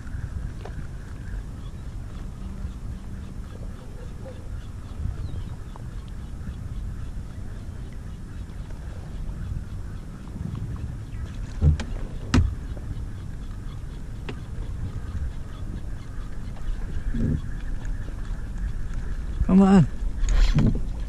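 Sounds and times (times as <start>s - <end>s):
water and wind rumble: 0.0s - 21.0s.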